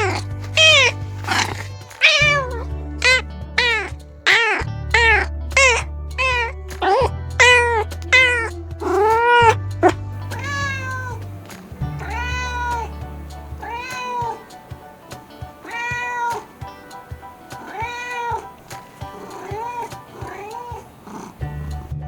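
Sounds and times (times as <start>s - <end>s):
cat meowing: 0.0s - 21.9s
background music: 0.0s - 22.0s.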